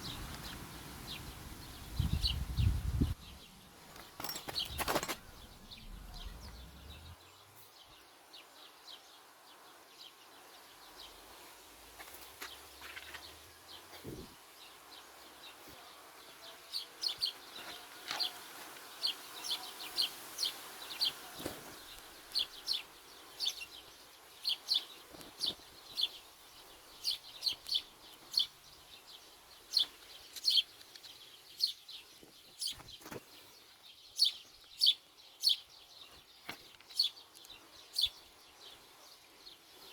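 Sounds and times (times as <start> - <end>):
small bird chirping: 0.0 - 9.2, 16.7 - 39.9.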